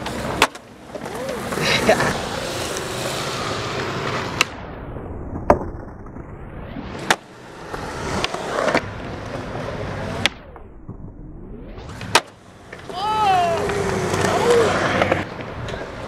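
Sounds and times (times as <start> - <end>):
skateboard wheels rolling on concrete: 0.0 - 16.0.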